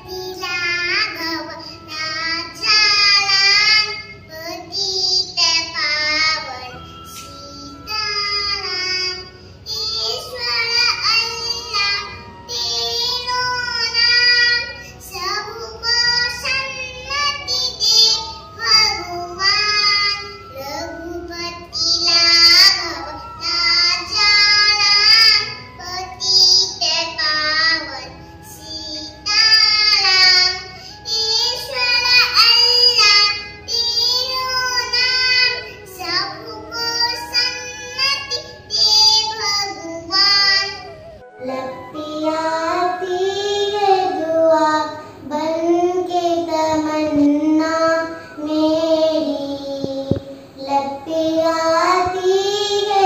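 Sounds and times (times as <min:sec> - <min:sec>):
child singing a prayer: 0:00.0 - 0:53.0
musical accompaniment: 0:00.0 - 0:53.0.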